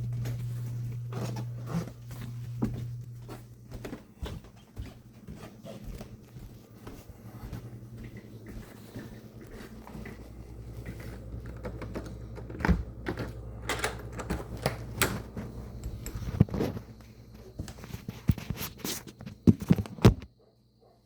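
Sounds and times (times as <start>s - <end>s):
steady low hum: 0.0s - 20.2s.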